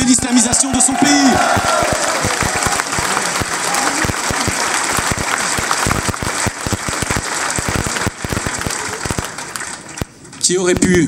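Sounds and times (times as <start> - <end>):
audience applauding: 0.2 - 10.8.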